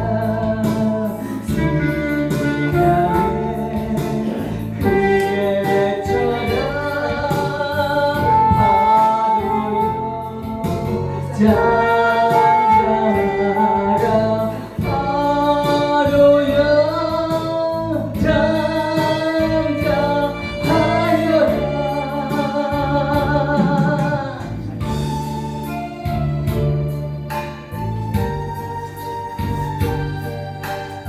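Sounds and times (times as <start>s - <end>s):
person singing gospel: 0.0s - 26.2s
instrumental backing with bass: 0.0s - 31.0s.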